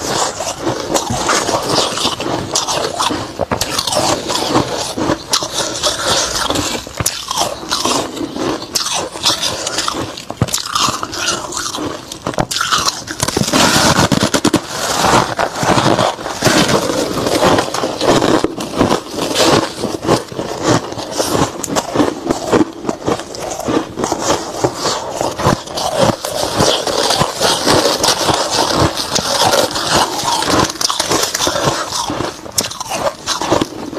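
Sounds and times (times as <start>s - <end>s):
frost being crunched and chewed: 0.0s - 33.9s.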